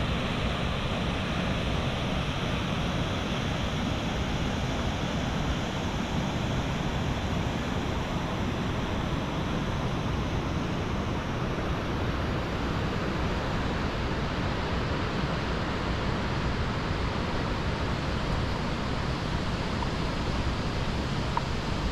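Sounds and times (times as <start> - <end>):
water rushing in a stream: 0.0 - 21.9.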